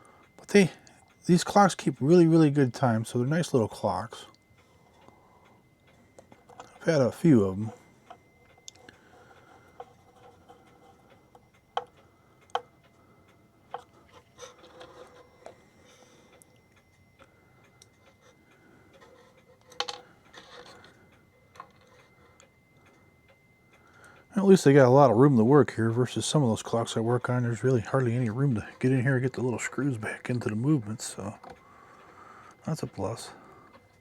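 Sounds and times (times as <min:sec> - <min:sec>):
clock ticking: 0:00.2 - 0:15.6, 0:16.2 - 0:34.0.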